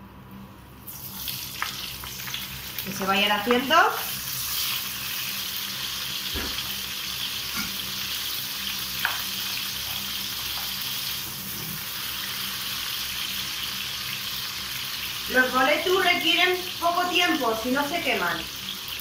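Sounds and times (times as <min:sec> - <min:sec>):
food sizzling in hot oil: 0:00.8 - 0:19.0.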